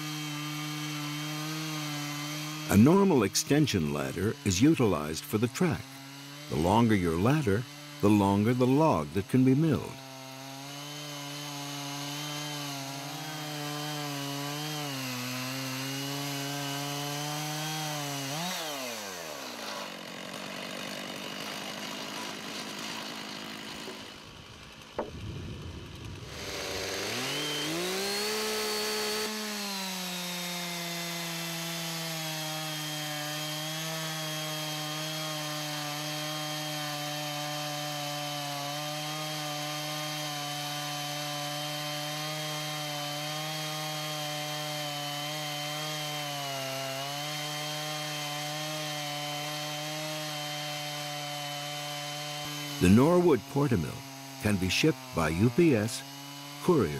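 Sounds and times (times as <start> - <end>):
chainsaw cutting log: 0.0 - 56.9.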